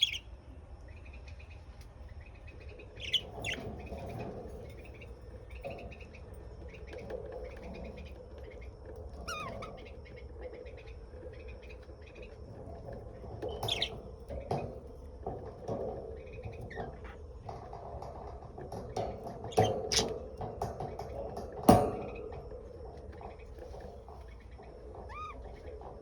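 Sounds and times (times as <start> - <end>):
parrots chirping and chattering: 0.0 - 0.3, 2.1 - 22.3, 23.1 - 26.0.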